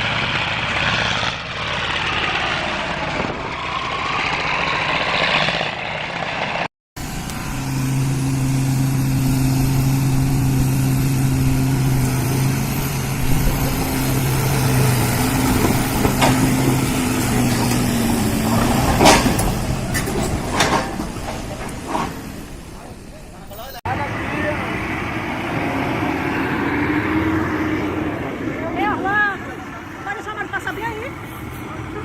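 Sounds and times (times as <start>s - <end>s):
truck engine running: 0.0s - 32.0s.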